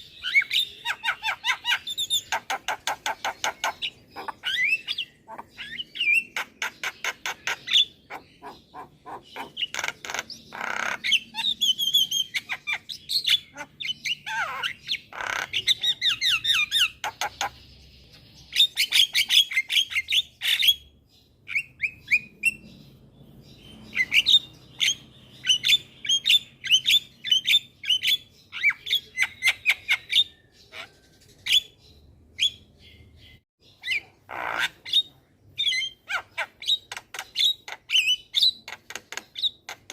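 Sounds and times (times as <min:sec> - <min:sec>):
myna bird chattering: 0:00.0 - 0:39.9.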